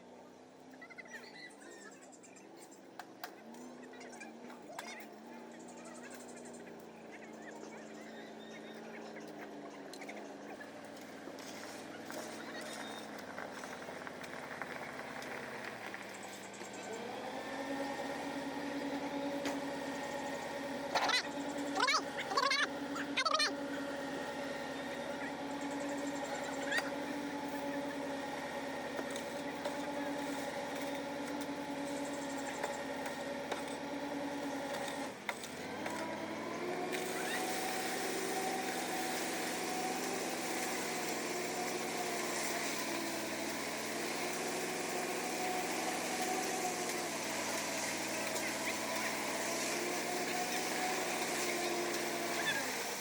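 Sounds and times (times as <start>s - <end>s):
construction machinery engine running: 0.0s - 53.0s
higher wavering engine: 4.6s - 53.0s.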